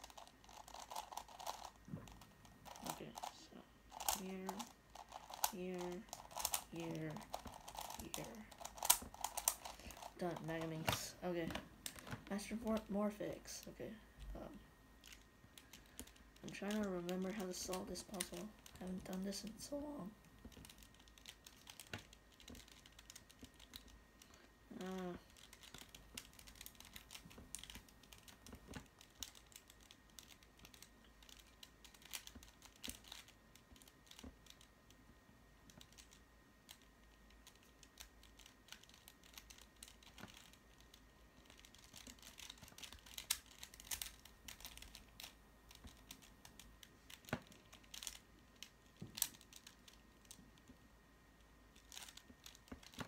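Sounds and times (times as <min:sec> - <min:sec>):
plastic puzzle clicks: 0:00.0 - 0:12.8, 0:20.4 - 0:35.0, 0:35.7 - 0:50.8, 0:51.8 - 0:53.0.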